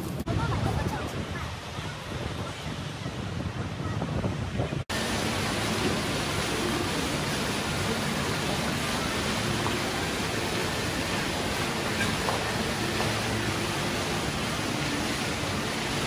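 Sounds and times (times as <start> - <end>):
indoor water fountain: 0.0 - 16.0
outdoor street noise: 0.0 - 16.0.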